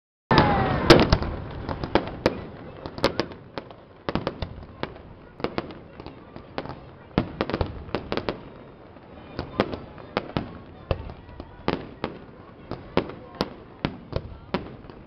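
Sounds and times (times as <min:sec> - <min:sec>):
fireworks bangs and crackles: 0:00.3 - 0:15.0.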